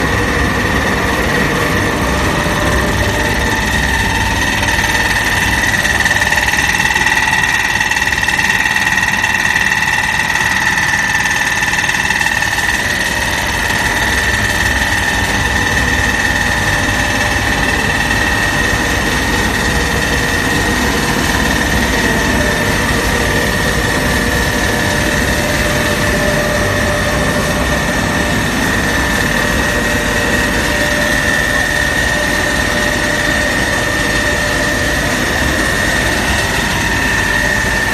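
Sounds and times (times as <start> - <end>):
grinding mill running: 0.0 - 37.9
high machine whine: 0.0 - 37.9.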